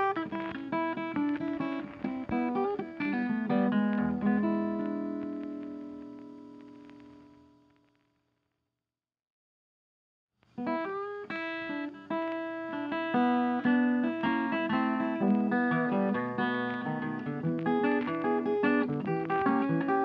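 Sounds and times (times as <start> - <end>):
plucked acoustic guitar music: 0.0 - 7.2, 10.6 - 20.0.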